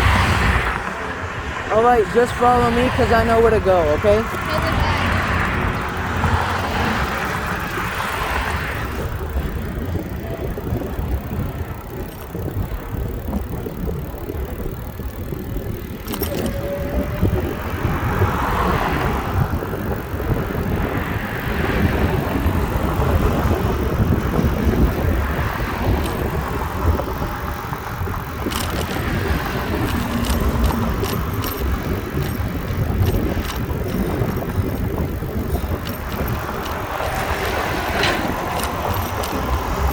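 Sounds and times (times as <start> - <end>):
road noise: 0.0 - 39.9
wind rumble on microphone: 0.0 - 39.9.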